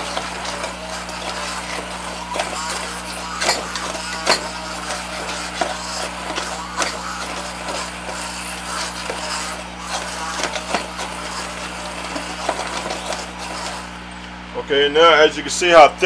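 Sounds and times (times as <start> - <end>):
immersion blender running: 0.0 - 14.6.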